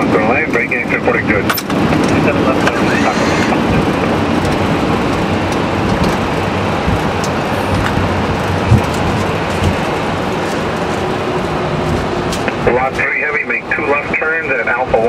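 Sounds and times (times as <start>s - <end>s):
airliner rumble on runway: 0.0s - 15.0s.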